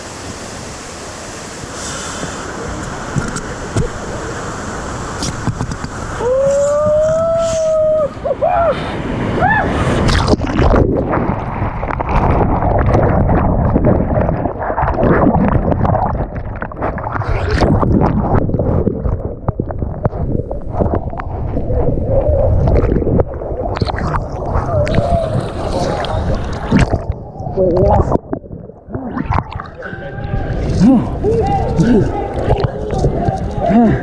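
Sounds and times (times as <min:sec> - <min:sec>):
rapids churning and splashing: 0:00.0 - 0:34.0
wind buffeting microphone: 0:05.2 - 0:34.0.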